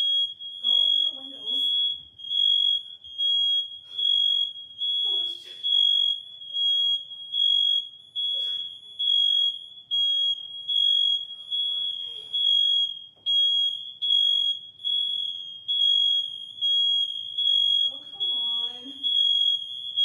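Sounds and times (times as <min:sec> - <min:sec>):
smoke alarm beeping: 0:00.0 - 0:20.0.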